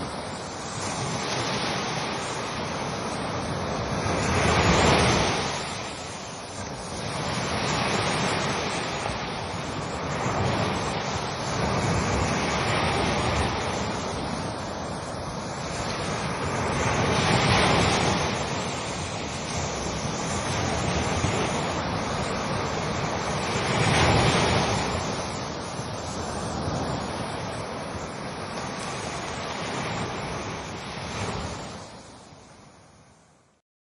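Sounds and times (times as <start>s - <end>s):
ocean waves washing onto shore: 0.0s - 33.6s.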